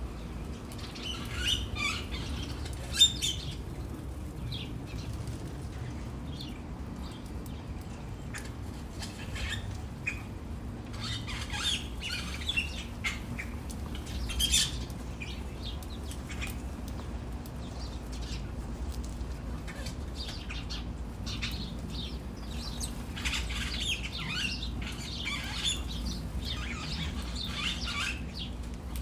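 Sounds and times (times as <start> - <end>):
small birds chirping and squawking: 0.1 - 29.0.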